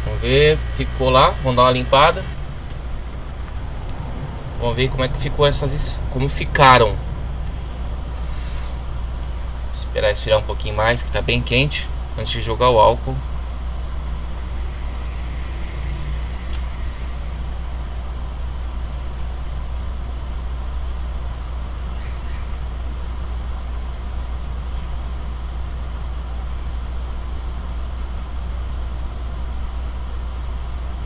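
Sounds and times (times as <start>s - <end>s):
machine whirring with low hum: 0.0s - 31.0s.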